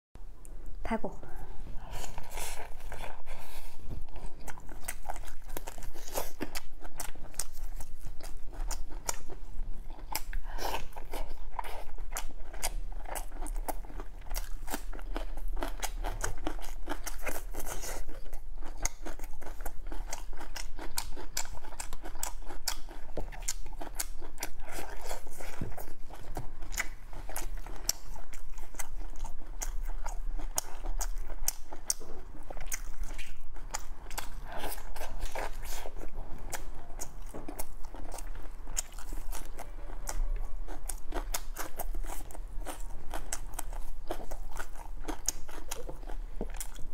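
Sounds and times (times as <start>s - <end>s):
wet chewing: 1.8s - 46.9s.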